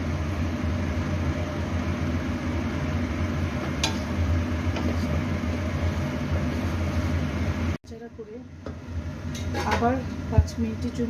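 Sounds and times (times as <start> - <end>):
kitchen background hum: 0.0 - 11.0.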